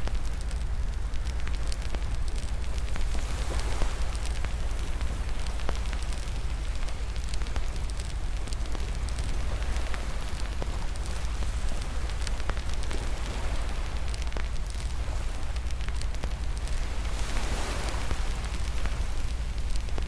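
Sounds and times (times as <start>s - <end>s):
low rumble: 0.0s - 20.0s
wood fire crackling: 0.0s - 20.0s.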